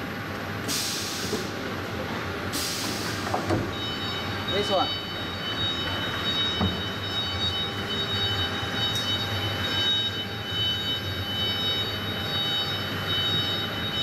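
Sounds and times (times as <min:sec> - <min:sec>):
factory machinery drone: 0:00.0 - 0:14.0.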